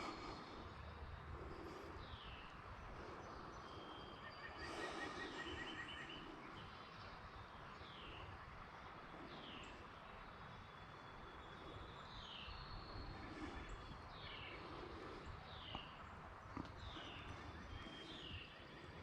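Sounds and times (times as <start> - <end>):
birds whistling and trilling: 0.0 - 19.0
steady background noise: 0.0 - 19.0.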